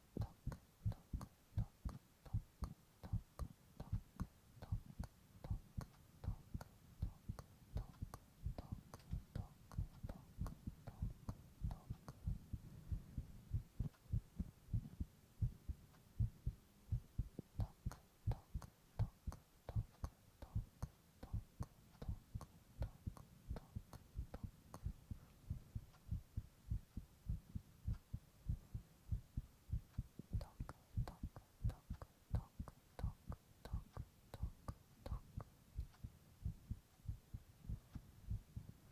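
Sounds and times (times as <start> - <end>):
heartbeat thumps: 0.2 - 38.9.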